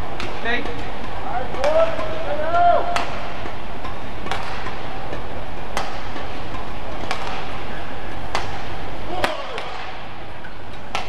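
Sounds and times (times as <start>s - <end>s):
steady background noise: 0.0s - 11.0s
rackets hitting shuttlecock: 0.1s - 11.0s.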